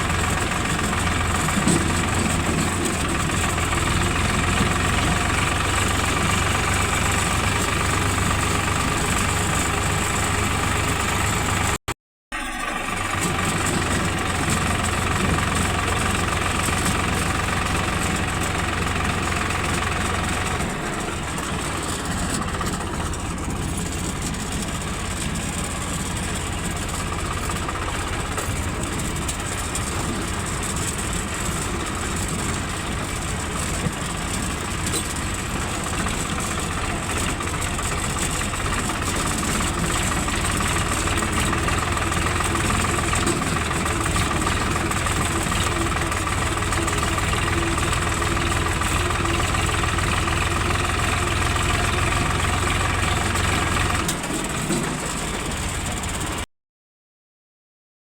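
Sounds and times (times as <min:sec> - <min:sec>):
excavator diesel engine idling: 0:00.0 - 0:56.5.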